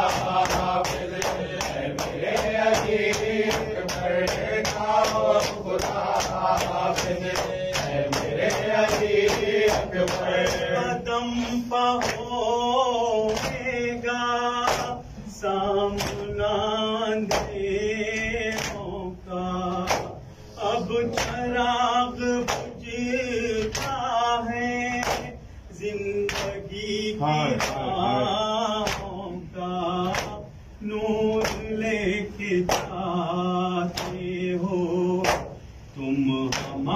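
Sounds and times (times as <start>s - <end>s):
men singing a lament: 0.0s - 36.9s.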